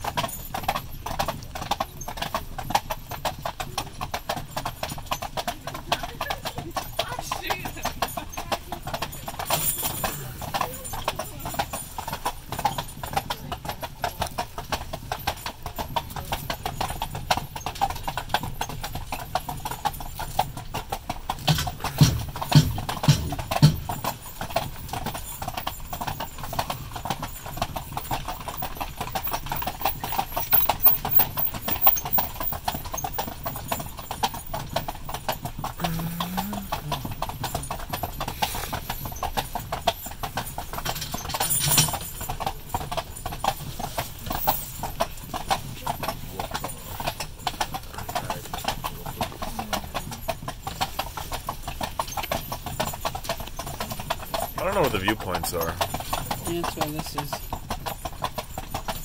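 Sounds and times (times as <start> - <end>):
horse hooves clip-clopping on asphalt: 0.0 - 59.0.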